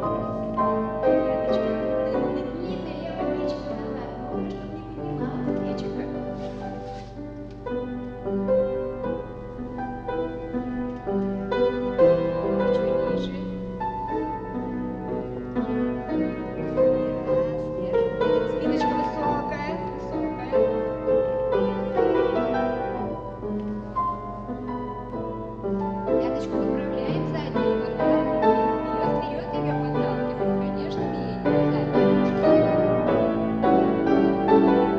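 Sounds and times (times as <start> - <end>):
classical piano playing: 0.0 - 34.9.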